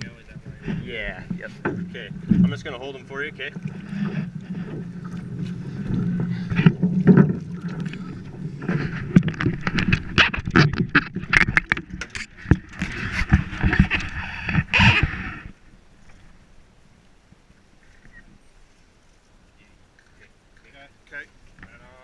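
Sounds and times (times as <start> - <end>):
river water washing: 0.0 - 22.0.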